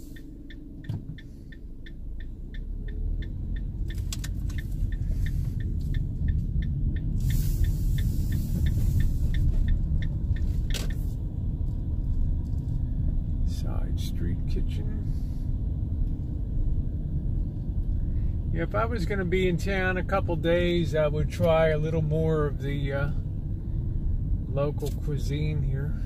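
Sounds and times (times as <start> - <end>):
engine and road rumble: 0.0 - 26.0
turn signal ticking: 0.0 - 26.0.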